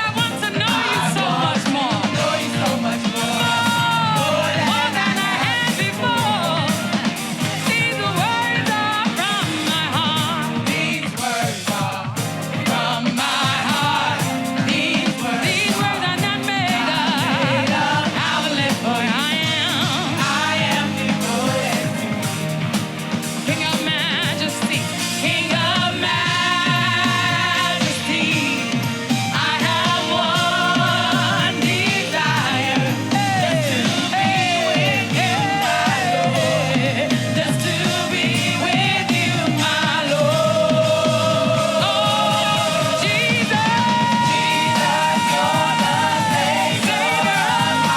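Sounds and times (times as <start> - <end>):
band playing a steady beat: 0.0 - 47.9
voices singing: 0.0 - 47.9.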